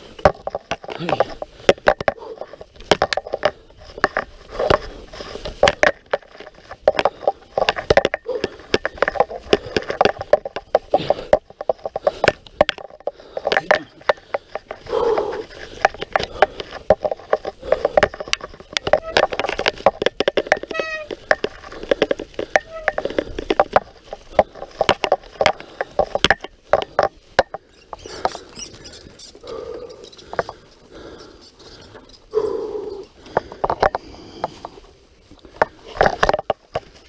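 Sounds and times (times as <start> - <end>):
bike knocking and rattling: 0.0 - 37.0.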